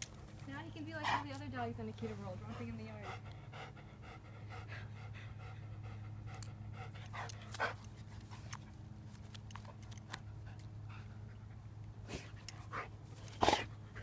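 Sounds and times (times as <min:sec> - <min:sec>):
steady low hum: 0:00.0 - 0:14.0
dog panting: 0:00.5 - 0:08.9, 0:09.5 - 0:14.0.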